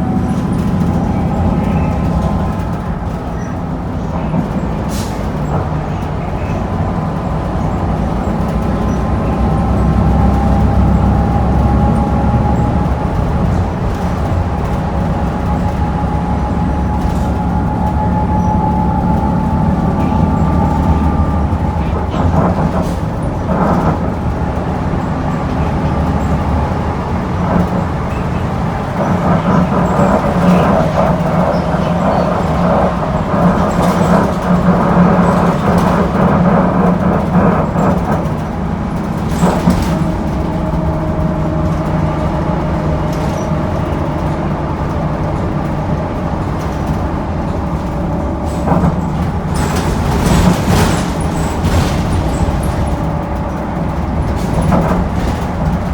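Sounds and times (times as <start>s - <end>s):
bus body rattles and knocks: 0.0s - 55.9s
bus engine running: 0.0s - 55.9s
whining drivetrain: 0.0s - 55.9s.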